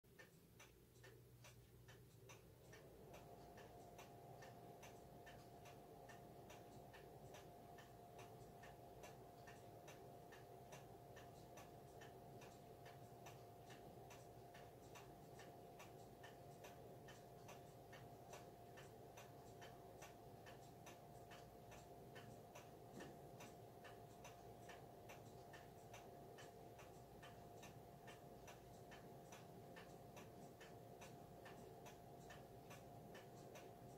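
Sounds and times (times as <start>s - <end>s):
pendulum clock ticking: 0.1s - 33.9s.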